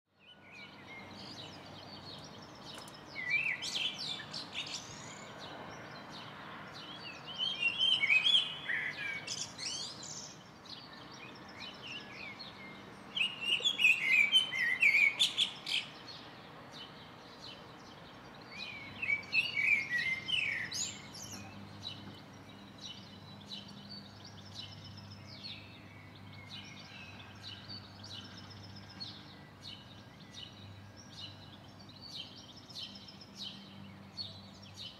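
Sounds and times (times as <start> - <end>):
songbirds chirping and whistling: 0.1 - 34.9.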